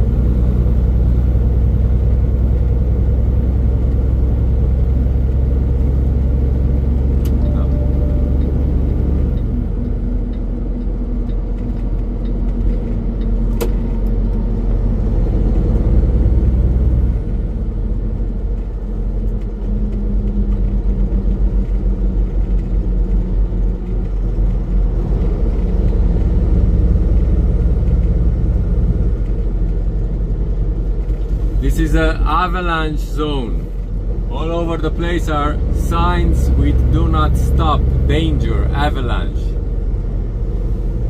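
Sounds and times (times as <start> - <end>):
road noise: 0.0 - 41.0
truck diesel engine driving: 0.0 - 41.0.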